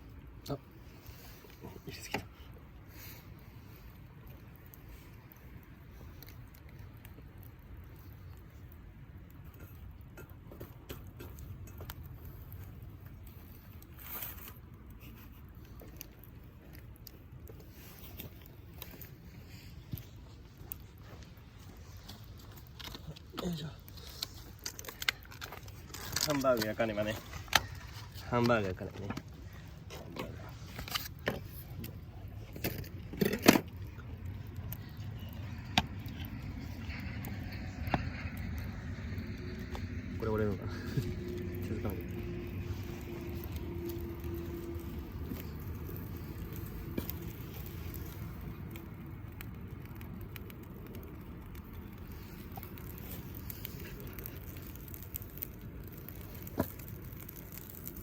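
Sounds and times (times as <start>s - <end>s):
small clicks and crackles: 0.0s - 58.0s
low steady rumble: 11.3s - 58.0s.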